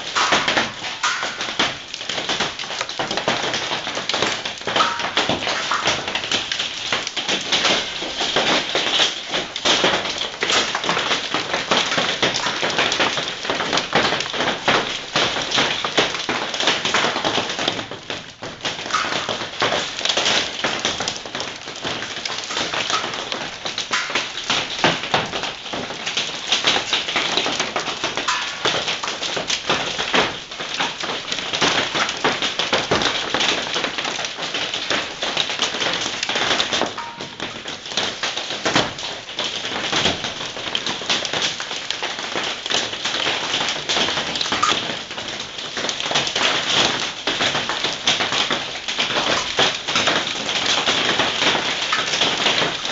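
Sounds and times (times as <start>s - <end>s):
hailstones clattering: 0.0s - 52.9s.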